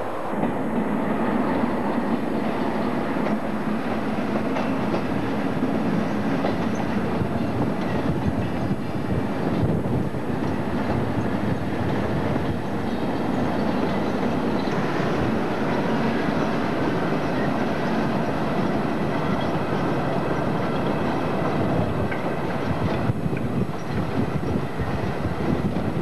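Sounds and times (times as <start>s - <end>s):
diesel locomotive engine: 0.0s - 26.0s
train wheels on track: 0.0s - 26.0s.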